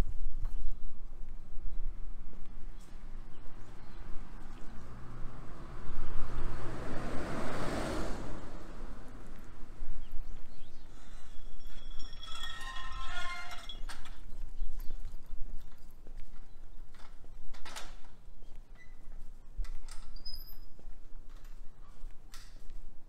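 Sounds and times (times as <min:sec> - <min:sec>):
footsteps on pavement: 0:00.0 - 0:06.6, 0:08.6 - 0:23.0.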